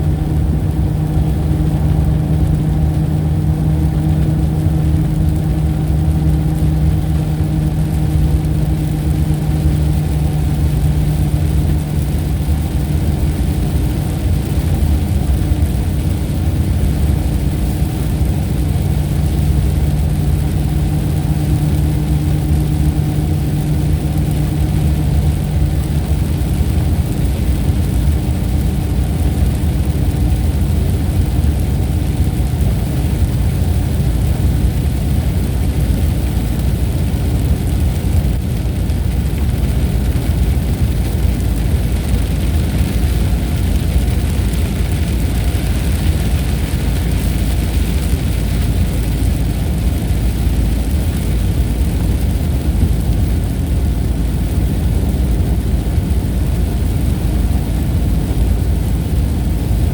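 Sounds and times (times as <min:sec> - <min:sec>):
deep rumbling noise: 0:00.0 - 0:59.9.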